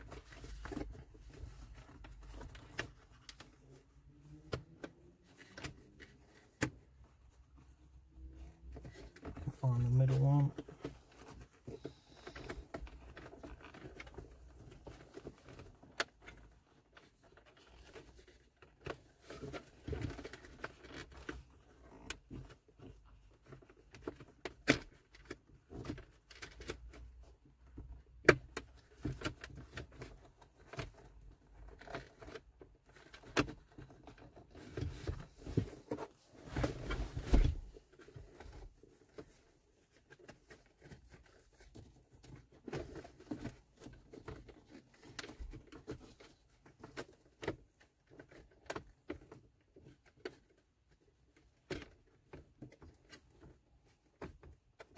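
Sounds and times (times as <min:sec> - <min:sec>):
rustling handling noise: 0:00.0 - 0:54.9.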